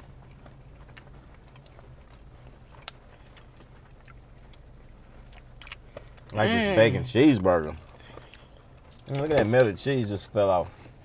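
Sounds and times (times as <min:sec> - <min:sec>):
person chewing: 0:00.0 - 0:09.4
steady low hum: 0:00.0 - 0:11.0.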